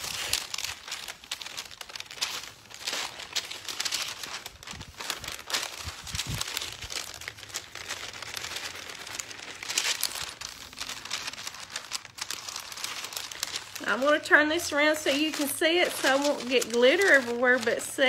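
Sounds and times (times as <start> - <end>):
parchment paper crinkling: 0.0 - 18.0.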